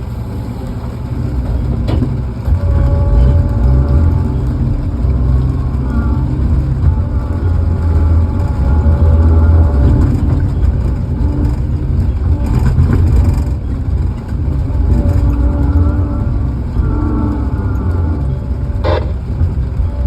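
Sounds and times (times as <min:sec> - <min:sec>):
large engine revving: 0:00.0 - 0:20.0.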